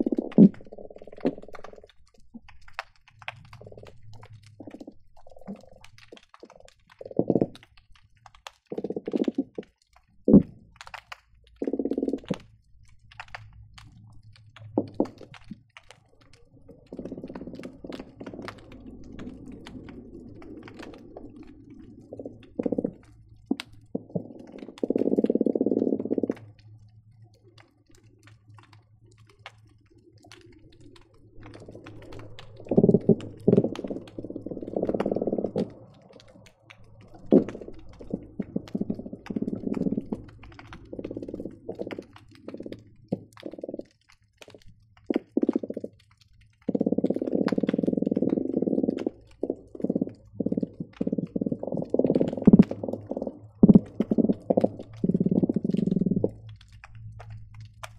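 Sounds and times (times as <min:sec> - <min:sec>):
fish croaking underwater: 0:00.0 - 0:57.9
sharp clicks and pops: 0:00.0 - 0:57.9.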